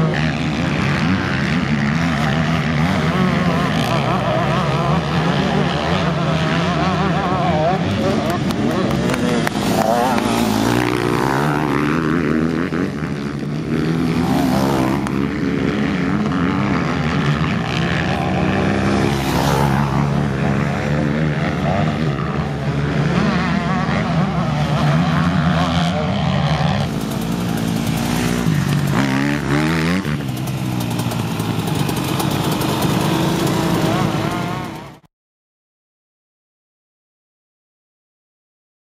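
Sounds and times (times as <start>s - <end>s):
motocross bike engines racing: 0.0s - 35.1s.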